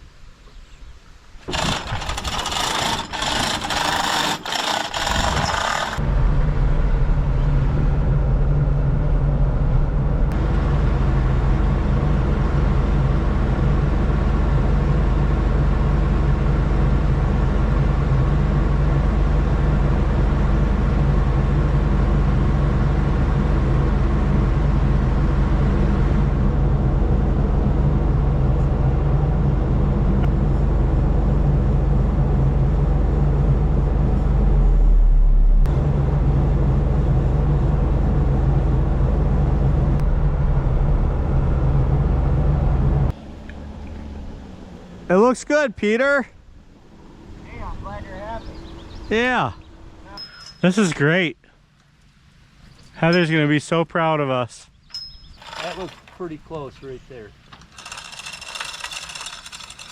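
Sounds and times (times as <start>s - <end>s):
engine running steadily: 1.4s - 45.4s, 55.4s - 59.9s.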